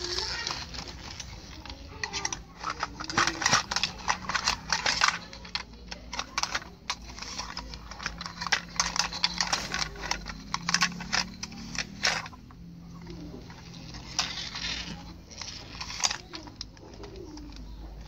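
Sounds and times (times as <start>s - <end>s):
plastic toys clicking and clattering: 0.0s - 18.0s
plastic wheels rattling: 0.0s - 18.0s.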